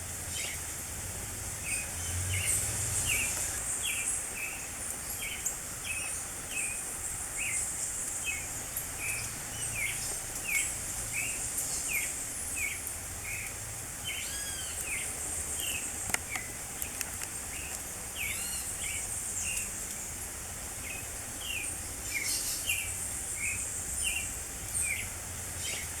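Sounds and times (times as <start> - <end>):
high chorus of insects: 0.0 - 26.0.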